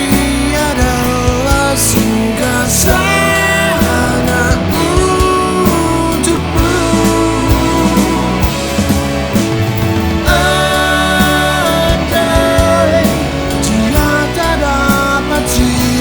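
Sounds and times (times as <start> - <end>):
rock music with bending guitar: 0.0 - 16.0.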